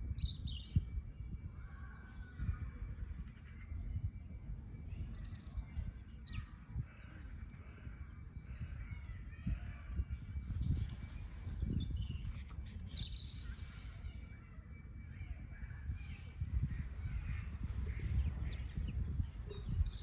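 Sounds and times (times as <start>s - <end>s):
birds chirping and trilling: 0.0s - 20.0s
low background rumble: 3.4s - 20.0s.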